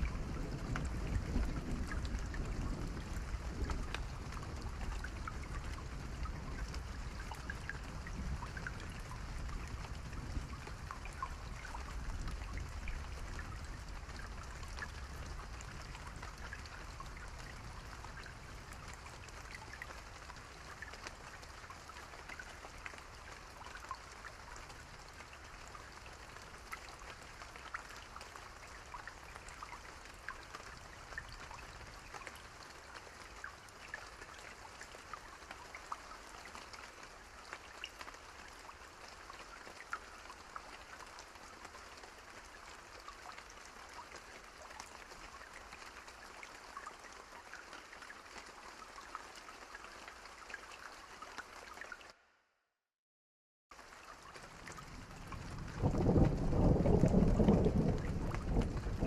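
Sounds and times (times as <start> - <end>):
steady rain pattering: 0.0 - 52.2, 53.7 - 59.0.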